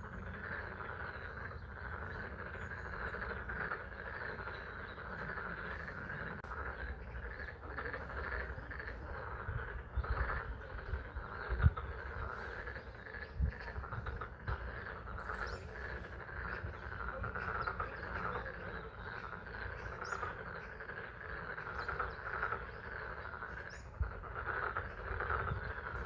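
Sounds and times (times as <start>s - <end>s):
frogs calling in chorus: 0.0s - 26.0s.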